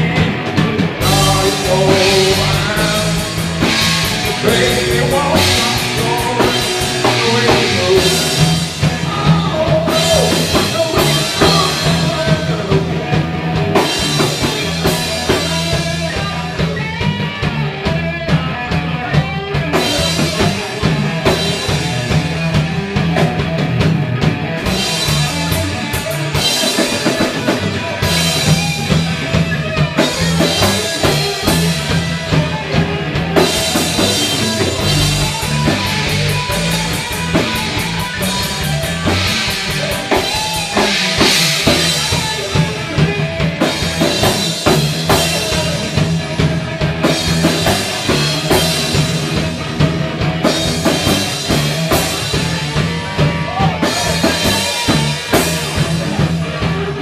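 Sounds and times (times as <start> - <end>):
drum kit: 0.0 - 57.0
electric guitar: 0.0 - 57.0.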